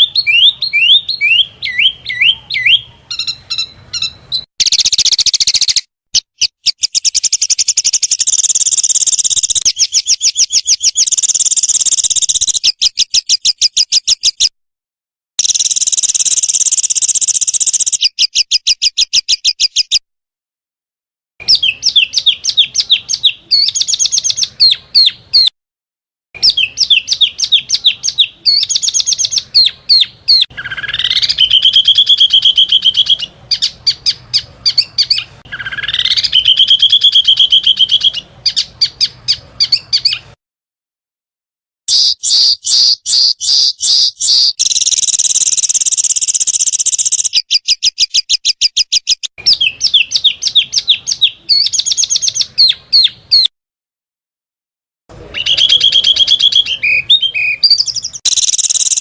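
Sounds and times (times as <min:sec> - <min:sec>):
buzzy bird trill: 0:00.0 - 0:14.5, 0:15.4 - 0:20.0, 0:21.4 - 0:25.5, 0:26.4 - 0:40.3, 0:41.9 - 0:53.5, 0:55.2 - 0:59.0
rising bird whistles: 0:00.0 - 0:14.5, 0:15.4 - 0:20.0, 0:21.4 - 0:25.5, 0:26.4 - 0:40.2, 0:41.9 - 0:53.5, 0:55.3 - 0:59.0
songbirds chirping: 0:00.0 - 0:14.5, 0:21.4 - 0:25.5, 0:26.4 - 0:40.4, 0:41.9 - 0:53.5, 0:55.1 - 0:59.0.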